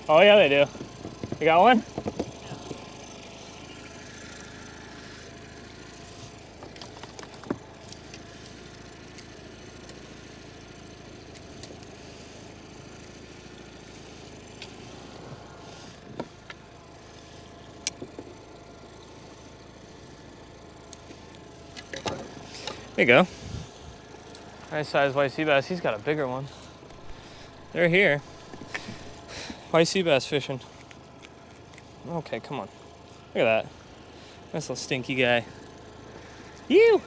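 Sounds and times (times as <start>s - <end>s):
boat engine idling: 0.0s - 37.0s.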